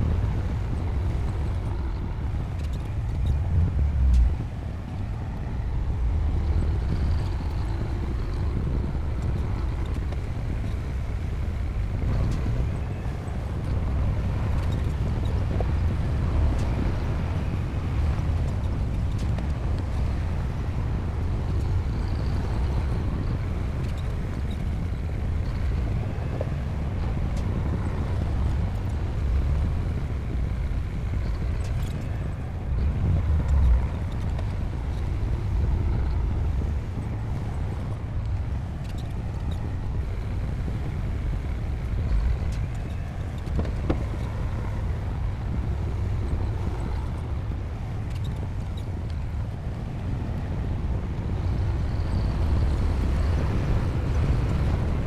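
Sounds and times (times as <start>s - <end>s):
bulldozer diesel engine rumbling: 0.0s - 55.0s.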